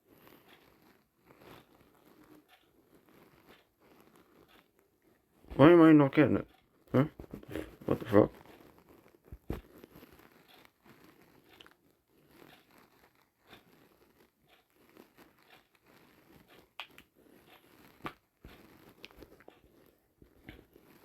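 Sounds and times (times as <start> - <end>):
faint rustling: 0.0 - 21.0.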